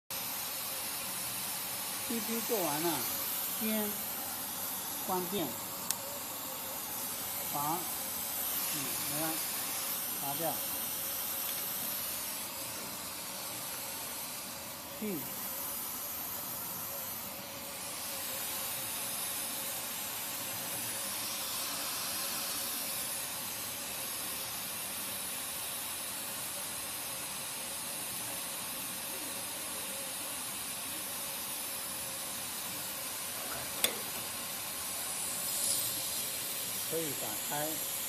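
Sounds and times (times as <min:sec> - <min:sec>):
compressed air hissing: 0:00.1 - 0:38.0.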